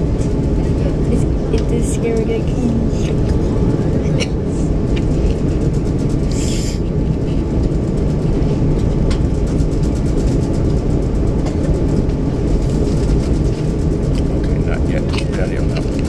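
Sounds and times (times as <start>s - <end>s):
jet engine and wheel rumble: 0.0s - 16.0s.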